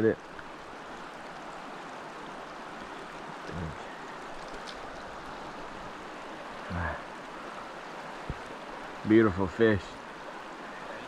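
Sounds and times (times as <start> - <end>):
river water rushing over shoals: 0.0 - 11.0.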